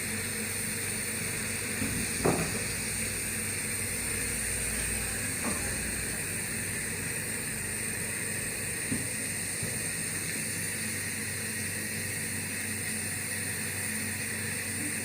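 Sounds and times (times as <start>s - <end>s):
compressor motor hum: 0.0s - 15.0s.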